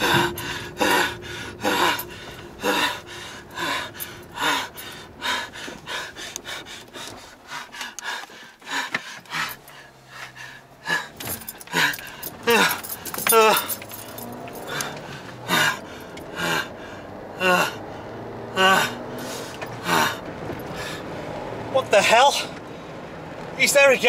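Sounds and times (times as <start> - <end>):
man breathing hard and fast: 0.0 - 17.2, 19.2 - 21.4.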